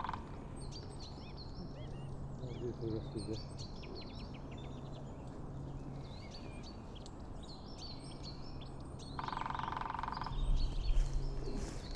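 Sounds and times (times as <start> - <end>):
songbirds chirping: 1.0 - 11.9.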